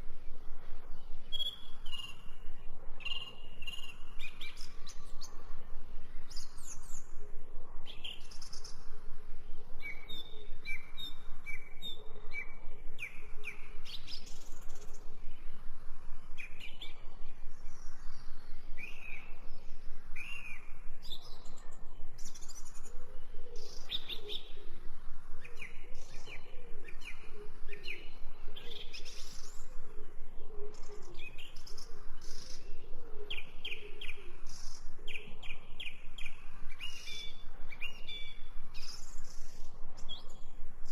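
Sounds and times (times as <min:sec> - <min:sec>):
birds chirping and singing: 0:00.8 - 0:05.5, 0:09.7 - 0:15.4, 0:16.3 - 0:24.8, 0:25.4 - 0:40.9.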